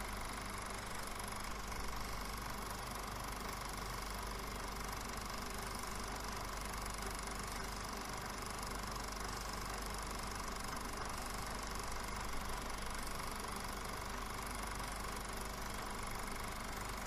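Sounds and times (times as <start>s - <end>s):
tape hiss and low hum: 0.0s - 17.0s.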